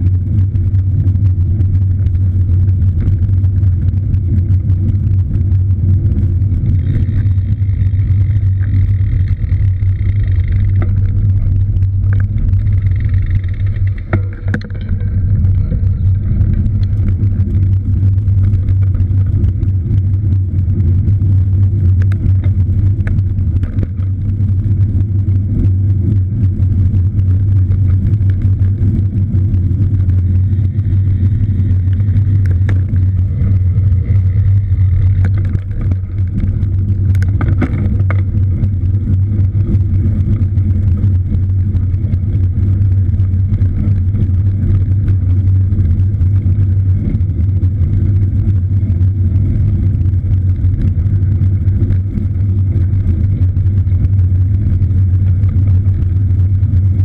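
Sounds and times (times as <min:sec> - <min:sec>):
bike riding rumble: 0:00.0 - 0:57.0
wind on microphone: 0:00.0 - 0:57.0.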